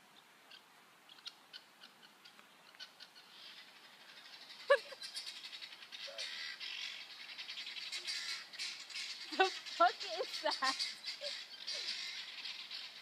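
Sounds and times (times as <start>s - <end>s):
bird chirping: 0.5s - 13.0s.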